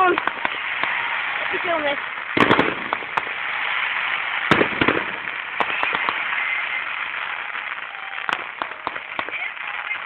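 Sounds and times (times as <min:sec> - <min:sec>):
fireworks bang: 0:00.0 - 0:10.0
fireworks cracking: 0:00.0 - 0:10.0
fireworks hiss: 0:00.0 - 0:10.0.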